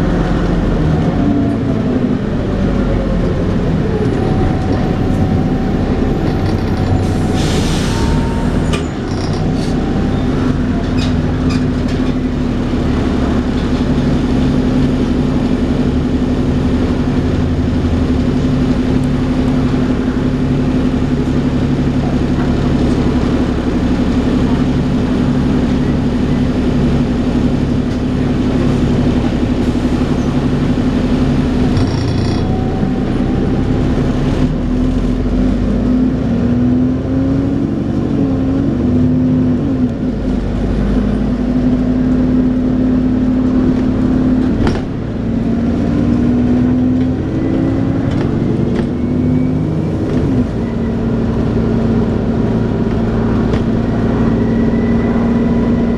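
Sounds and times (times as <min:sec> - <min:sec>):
bus engine whining: 0:00.0 - 0:55.9.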